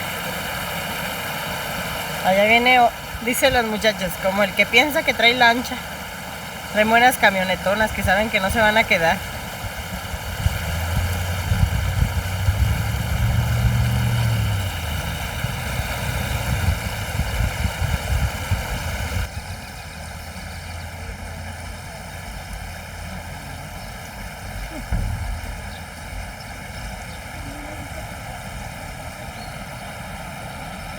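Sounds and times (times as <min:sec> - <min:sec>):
river water rushing: 0:00.0 - 0:30.9
truck engine revving: 0:00.0 - 0:30.9.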